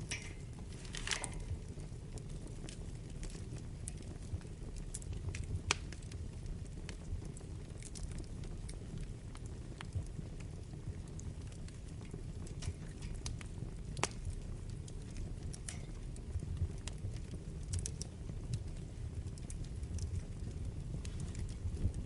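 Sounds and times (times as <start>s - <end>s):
fire crackling and popping: 0.0s - 22.0s
wood fire rumbling: 0.0s - 22.0s.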